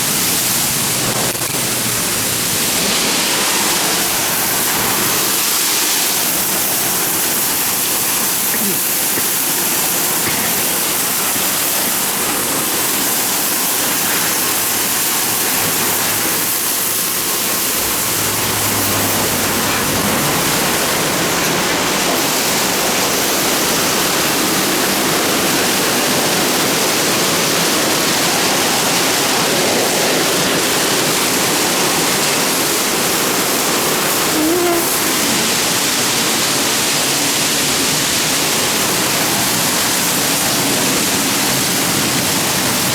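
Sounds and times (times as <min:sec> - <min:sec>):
water jets spraying over a car: 0:00.0 - 0:42.9.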